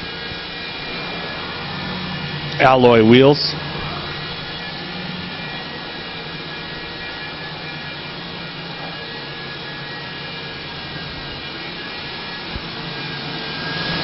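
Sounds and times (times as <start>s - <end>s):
car engine idling with whine: 0.0s - 14.0s.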